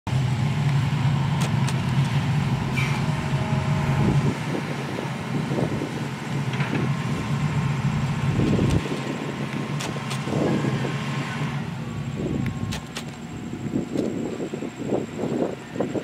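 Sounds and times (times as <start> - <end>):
excavator diesel engine running: 0.1 - 16.0.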